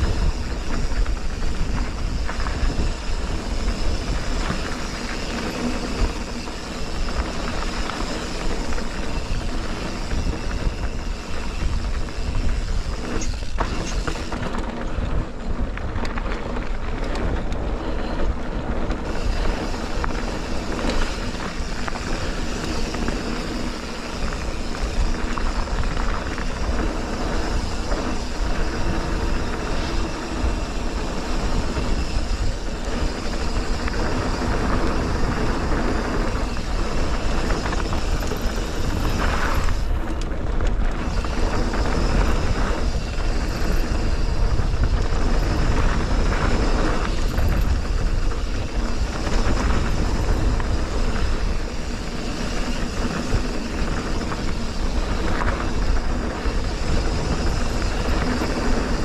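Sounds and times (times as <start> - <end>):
tyres rumbling and rattling on trail: 0.0 - 59.0
wind rushing on microphone: 0.0 - 59.0.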